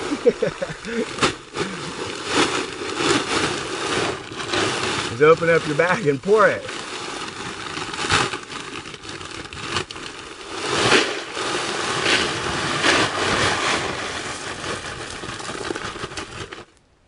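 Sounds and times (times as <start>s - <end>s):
gravel pouring from a plastic bag: 0.0s - 16.7s.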